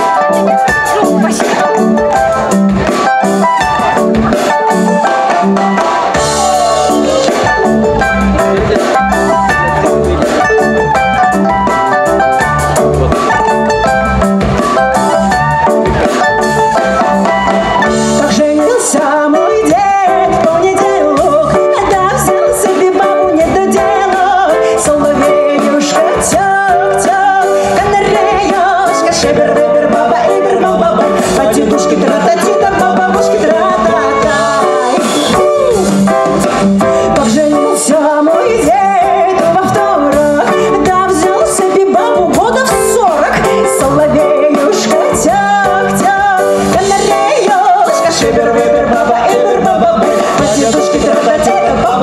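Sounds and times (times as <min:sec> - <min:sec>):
drum kit: 0:00.0 - 0:52.0
guitar: 0:00.0 - 0:52.0
person singing: 0:00.0 - 0:52.0.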